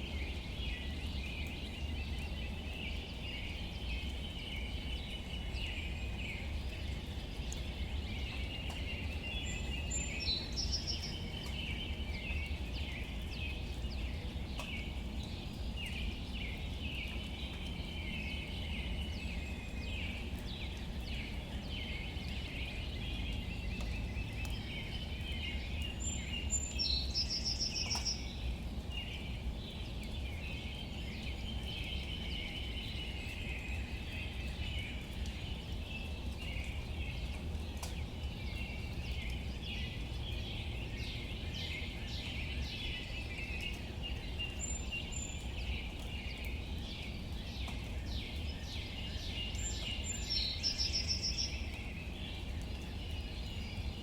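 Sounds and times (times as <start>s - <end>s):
faint drips: 0.0s - 54.0s
light rain on leaves: 0.0s - 54.0s
birds chirping: 0.1s - 54.0s.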